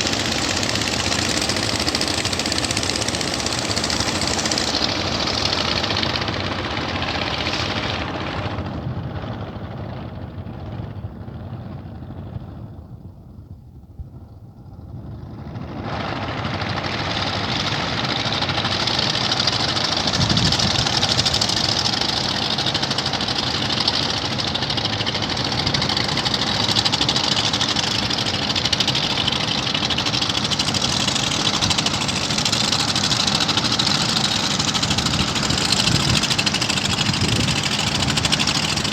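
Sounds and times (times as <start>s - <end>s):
boat engine running: 0.0s - 9.0s, 16.1s - 38.9s.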